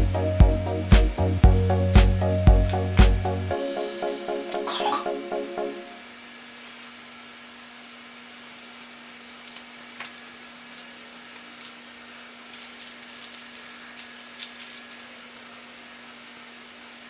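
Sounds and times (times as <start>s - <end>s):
steady low hum and hiss: 0.0s - 17.0s.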